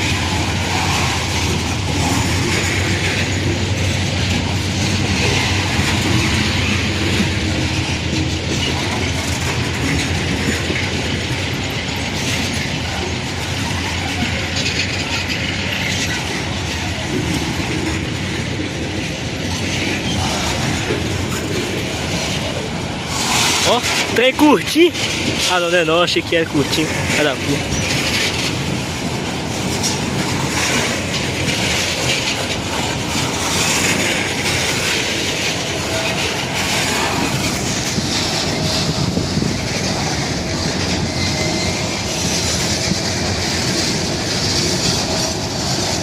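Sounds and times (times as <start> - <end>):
freight train wheels rumbling and clattering: 0.0 - 46.0.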